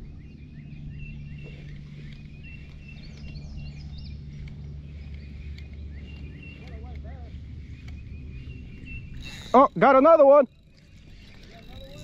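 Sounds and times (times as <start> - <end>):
birds chirping: 0.0 - 12.0
low outdoor rumble: 0.0 - 12.0.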